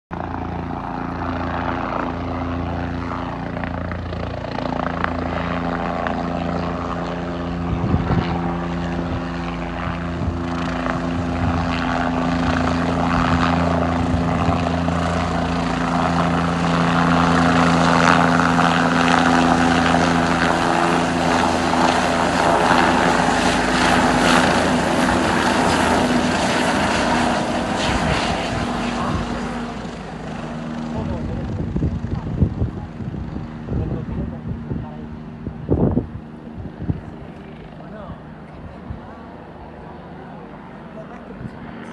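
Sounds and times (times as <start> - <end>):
helicopter engine and rotor drone: 0.1 - 41.9.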